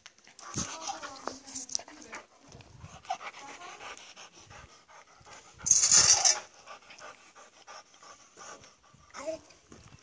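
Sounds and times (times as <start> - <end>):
dog panting: 0.2 - 9.6.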